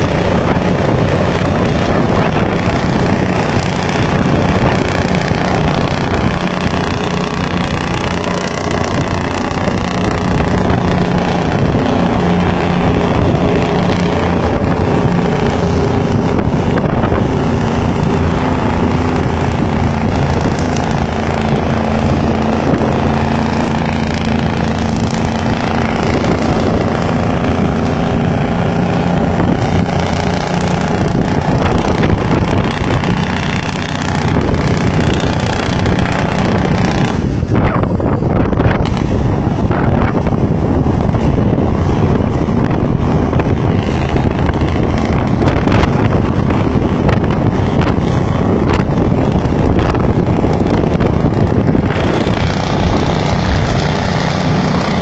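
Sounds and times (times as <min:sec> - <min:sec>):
road and wind noise: 0:00.0 - 0:55.0
vehicle engine droning: 0:00.0 - 0:55.0.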